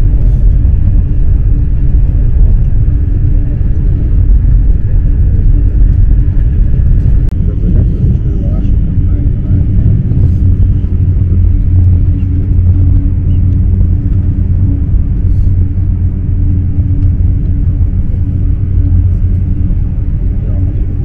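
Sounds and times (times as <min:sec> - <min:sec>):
high-speed train rumbling: 0:00.0 - 0:21.0.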